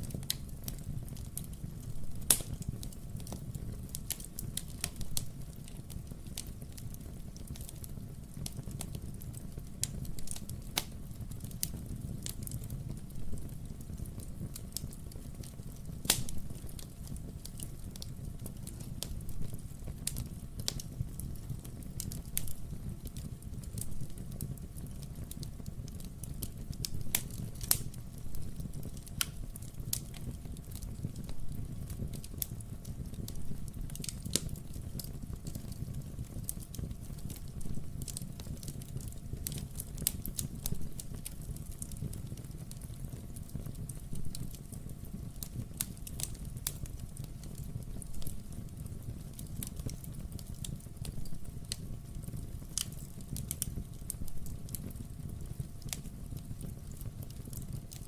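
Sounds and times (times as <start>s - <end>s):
fireplace flame rumble: 0.0s - 58.0s
logs crackling and popping: 0.0s - 58.0s.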